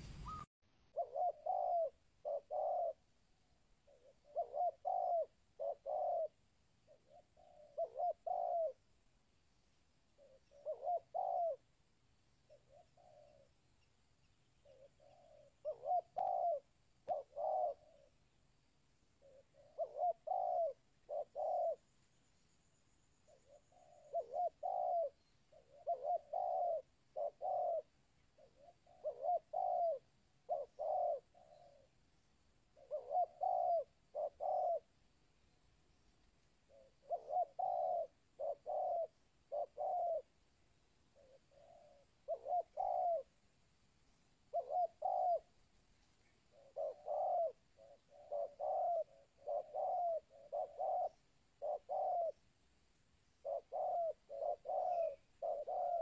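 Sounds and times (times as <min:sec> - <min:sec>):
dove cooing: 0:00.0 - 0:43.4, 0:44.4 - 0:52.6, 0:53.2 - 0:56.0.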